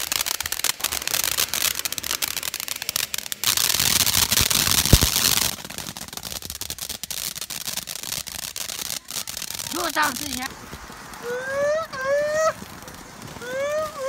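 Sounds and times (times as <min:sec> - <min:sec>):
loud hissing rush: 0:00.0 - 0:06.1, 0:07.4 - 0:14.0
firework fountains crackling: 0:00.0 - 0:14.0.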